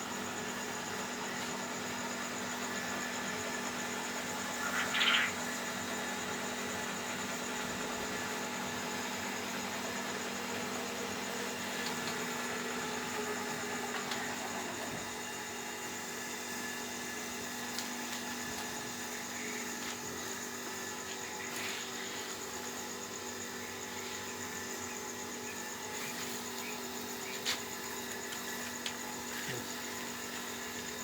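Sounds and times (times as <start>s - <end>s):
incubator mechanical hum: 0.0s - 31.0s.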